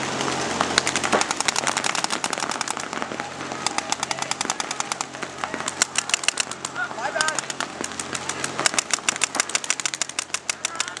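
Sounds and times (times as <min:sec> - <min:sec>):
paintball markers firing: 0:00.8 - 0:02.9, 0:03.6 - 0:11.0.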